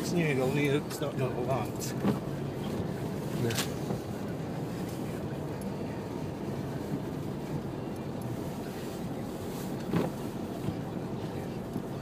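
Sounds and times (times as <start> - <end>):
pickup truck driving through snow: 0.0 - 12.0.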